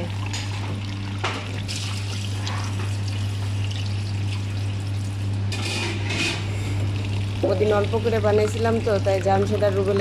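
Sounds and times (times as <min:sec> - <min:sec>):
tap water pouring and trickling: 0:00.0 - 0:05.1, 0:06.8 - 0:10.0
steady low hum: 0:00.0 - 0:10.0.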